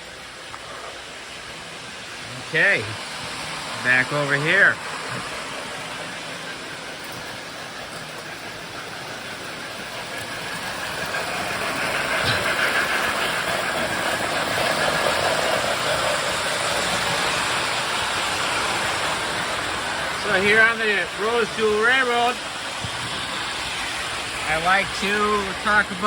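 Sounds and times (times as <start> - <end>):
toy trains running on track: 0.0 - 26.0.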